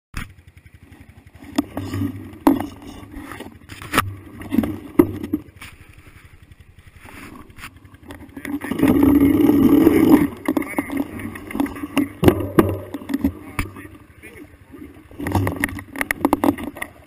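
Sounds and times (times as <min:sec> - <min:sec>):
dirt bike engine idling: 0:00.2 - 0:17.0.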